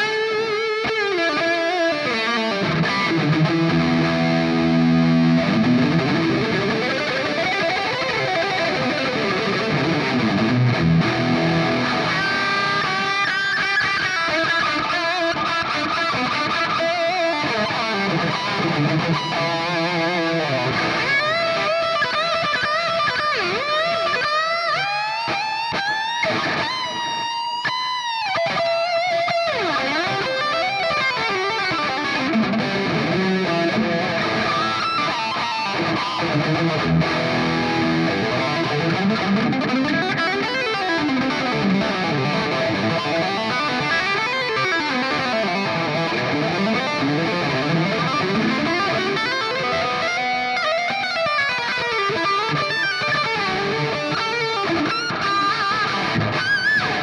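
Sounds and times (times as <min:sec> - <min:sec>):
electric guitar lead line: 0:00.0 - 0:57.0.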